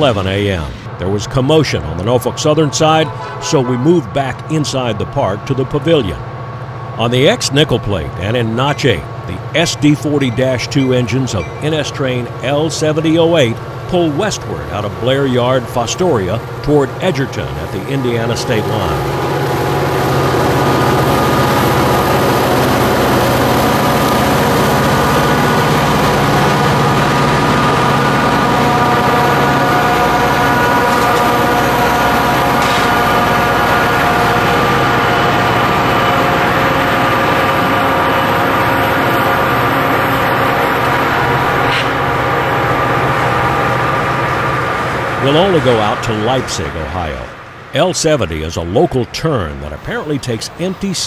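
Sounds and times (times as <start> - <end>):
diesel locomotive engine drone: 0.0 - 51.0
steady tones: 0.0 - 51.0.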